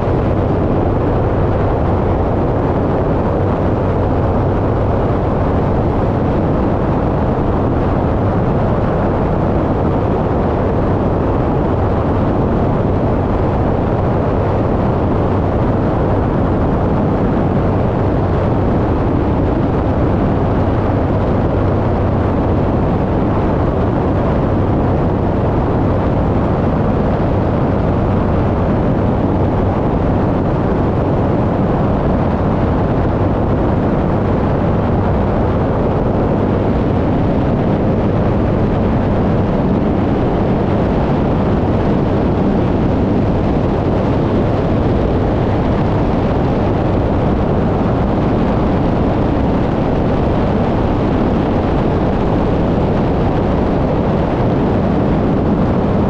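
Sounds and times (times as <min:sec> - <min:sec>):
propeller aircraft engine: 0:00.0 - 0:56.0.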